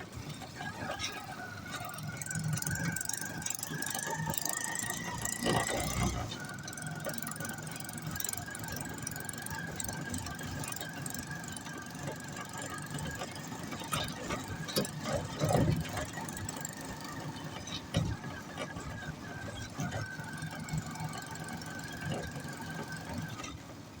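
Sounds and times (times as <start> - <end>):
high-pitched engine whine: 0.0 - 24.0
rickshaw engine droning: 0.0 - 24.0.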